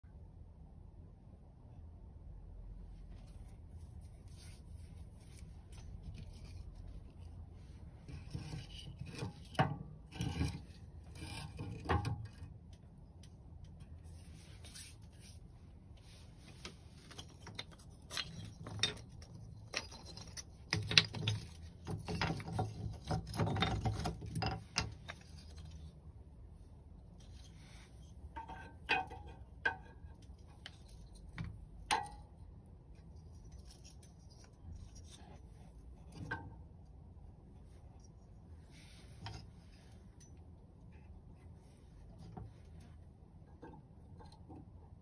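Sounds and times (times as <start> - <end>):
rubbing scraping and rustling: 2.9 - 12.6, 13.3 - 28.8, 32.8 - 36.7, 37.3 - 45.0.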